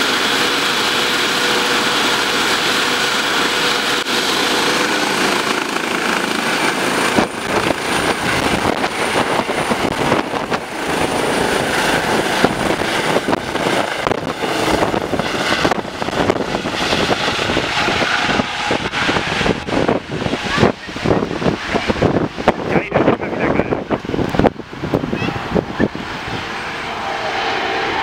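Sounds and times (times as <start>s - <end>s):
helicopter rotor and engine noise: 0.0s - 28.0s
high turbine whine: 0.0s - 28.0s.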